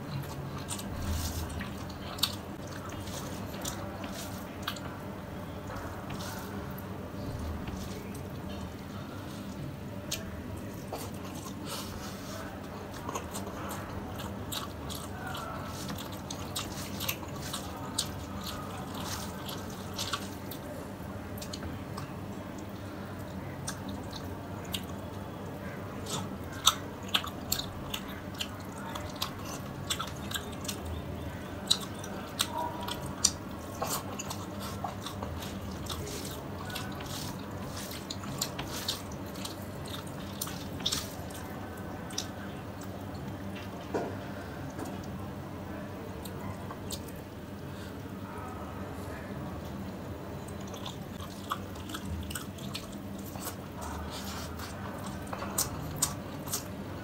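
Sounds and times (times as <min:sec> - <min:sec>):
fingers squishing rice: 0:00.0 - 0:43.3, 0:50.5 - 0:56.8
chewing: 0:00.0 - 0:45.2, 0:45.8 - 0:57.0.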